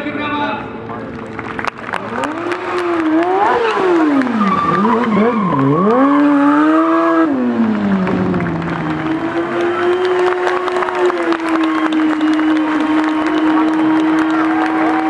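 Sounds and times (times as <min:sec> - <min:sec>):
motorcycle engine revving: 0:01.1 - 0:15.0.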